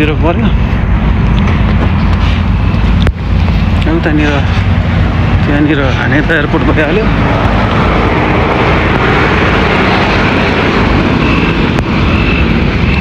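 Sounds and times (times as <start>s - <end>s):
jet aircraft passing: 0.0s - 13.0s.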